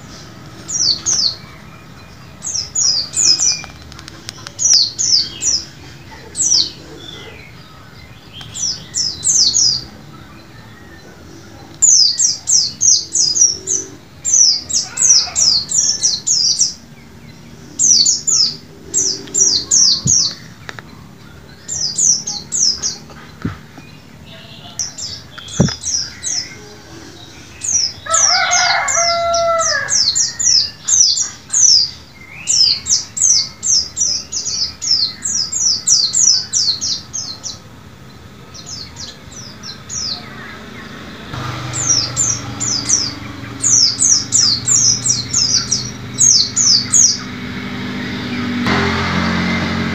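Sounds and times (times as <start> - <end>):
bird chattering song: 0.0 - 48.7.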